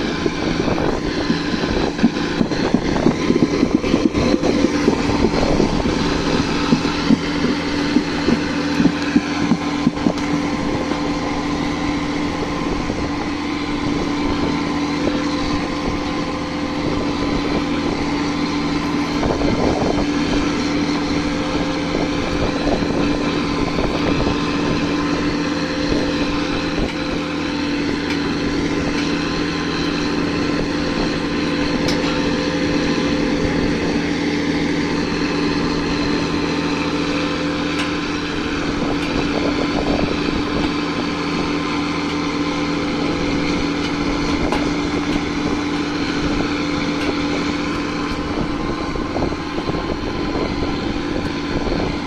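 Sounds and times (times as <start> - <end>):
tractor diesel engine droning: 0.0 - 52.0.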